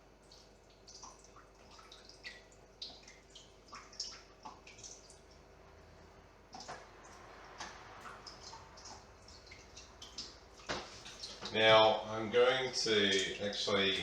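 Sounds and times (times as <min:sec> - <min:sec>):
water dripping into bucket: 0:00.0 - 0:14.0.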